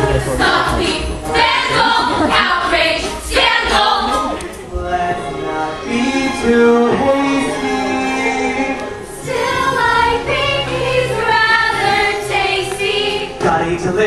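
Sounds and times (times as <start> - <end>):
instrumental accompaniment: 0.0 - 14.0
chorus of female voices singing: 0.2 - 4.4, 5.6 - 13.4.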